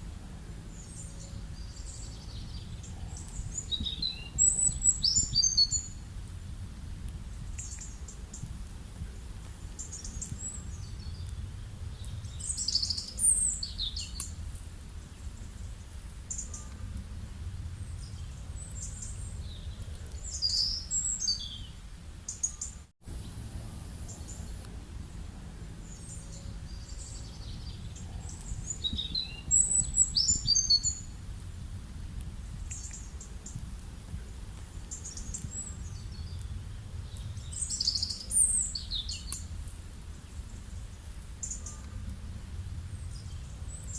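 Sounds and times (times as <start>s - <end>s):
small birds chirping: 0.0s - 6.3s, 7.0s - 31.3s, 32.2s - 43.9s
low outdoor rumble: 0.0s - 43.9s.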